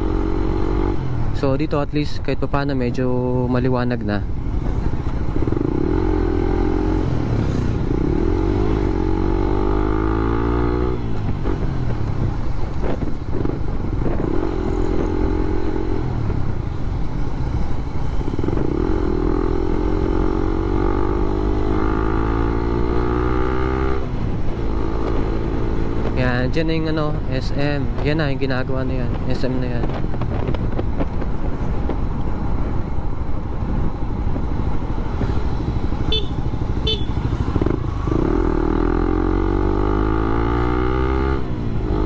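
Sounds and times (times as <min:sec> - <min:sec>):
motorcycle engine revving: 0:00.0 - 0:01.4, 0:04.5 - 0:16.6, 0:17.9 - 0:31.2, 0:34.6 - 0:42.0
wind rumble: 0:00.0 - 0:42.0.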